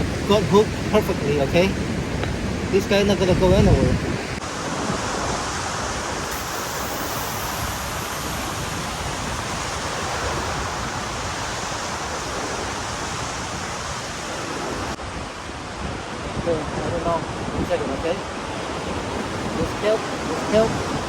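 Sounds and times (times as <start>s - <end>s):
ocean water surging around rocks: 0.0s - 21.0s.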